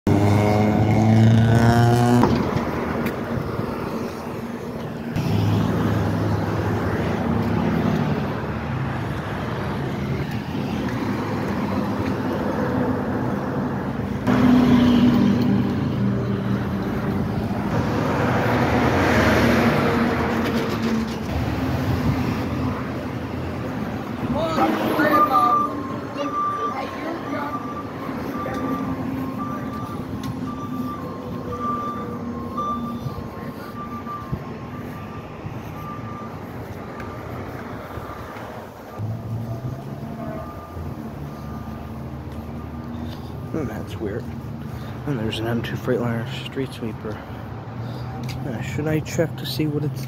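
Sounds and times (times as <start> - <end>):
diesel engines droning: 0.1 - 50.0.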